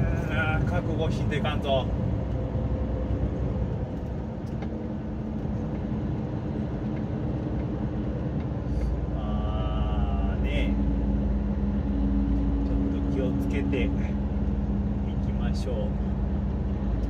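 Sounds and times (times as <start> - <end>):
diesel engine running: 0.0 - 17.0
road noise: 0.0 - 17.0.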